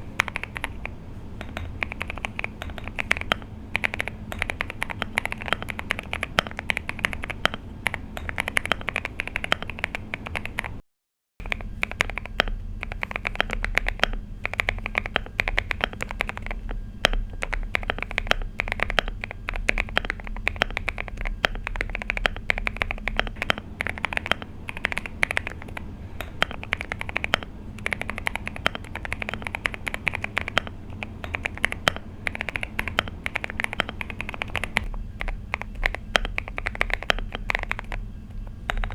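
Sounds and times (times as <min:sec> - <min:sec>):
mechanical keyboard key clacks: 0:00.1 - 0:10.8, 0:11.4 - 0:38.9.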